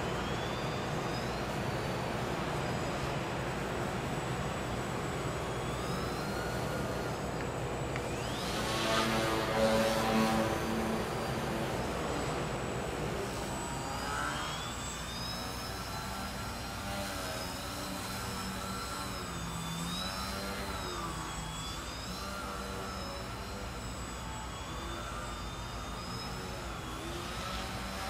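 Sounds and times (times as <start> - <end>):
rc plane motor whining: 0.0 - 28.0.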